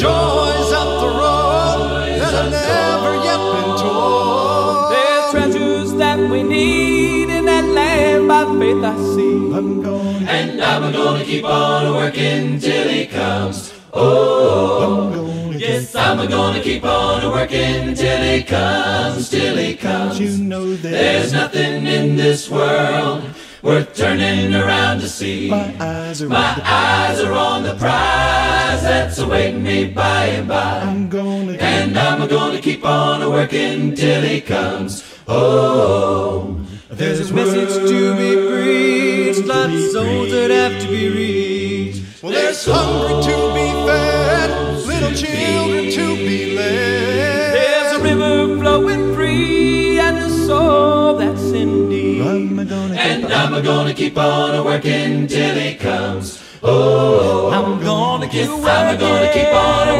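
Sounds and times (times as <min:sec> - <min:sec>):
vocal group singing in harmony: 0:00.0 - 0:59.9.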